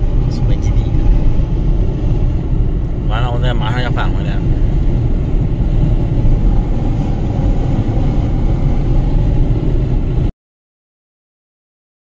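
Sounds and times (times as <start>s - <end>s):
car cabin road and engine rumble: 0.0s - 10.3s.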